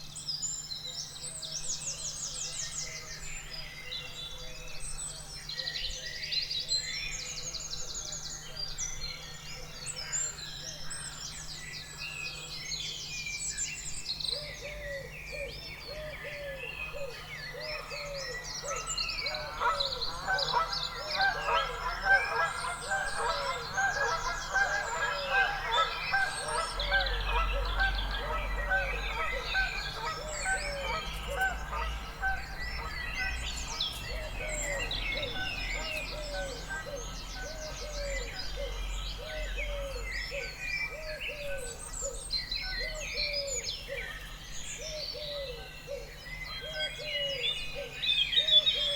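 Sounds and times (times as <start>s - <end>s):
low repeated bird call: 0.0s - 48.9s
songbirds trilling and chirping: 0.0s - 48.9s.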